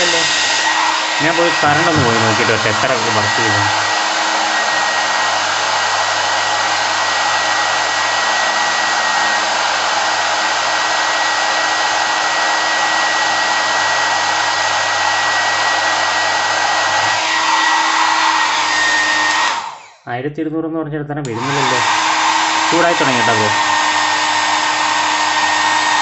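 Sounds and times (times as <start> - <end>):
hair dryer running: 0.0 - 20.0, 21.3 - 26.0.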